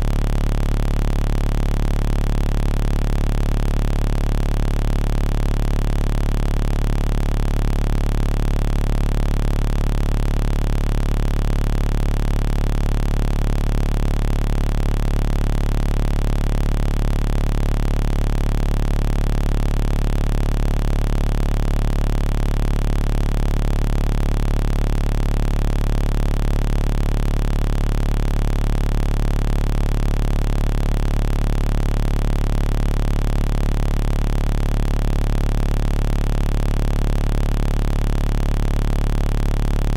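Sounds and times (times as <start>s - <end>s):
low electronic hum: 0.0s - 39.9s.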